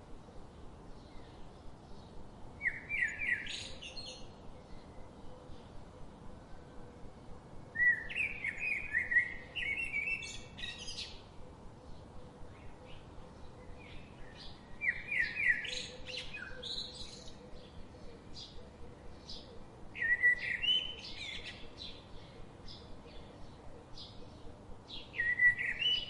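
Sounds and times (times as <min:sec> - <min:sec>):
faint steady hiss: 0:00.0 - 0:26.0
songbirds chirping: 0:00.0 - 0:26.0.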